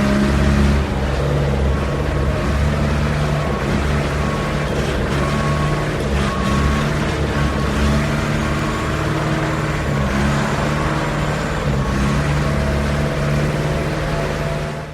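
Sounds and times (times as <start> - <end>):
concrete mixer truck engine humming: 0.0 - 14.9.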